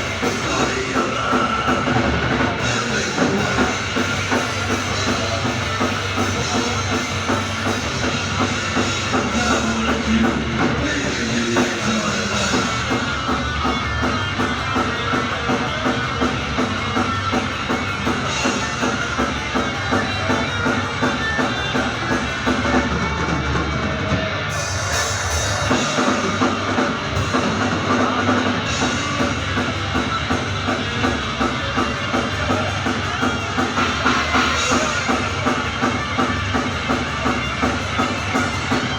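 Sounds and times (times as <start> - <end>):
bass guitar: 0.0 - 38.9
distorted electric guitars: 0.0 - 38.9
drum kit beat: 0.0 - 38.9.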